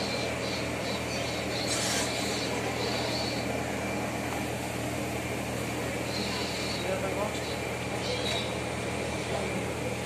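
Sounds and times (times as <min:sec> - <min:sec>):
machinery humming: 0:00.0 - 0:10.0.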